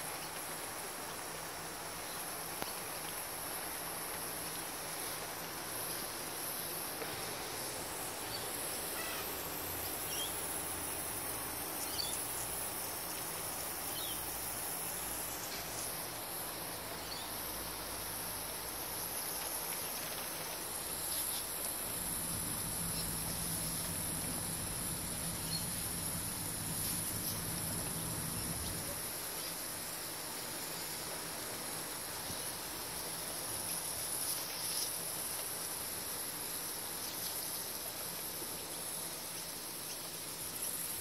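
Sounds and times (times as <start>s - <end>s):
high-pitched insect trill: 3.9s - 41.0s.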